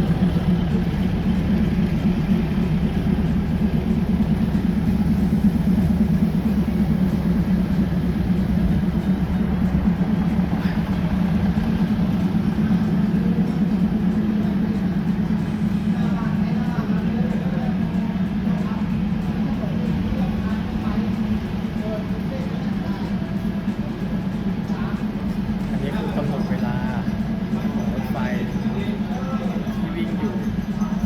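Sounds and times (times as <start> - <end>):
train engine idling hum: 0.0 - 31.0.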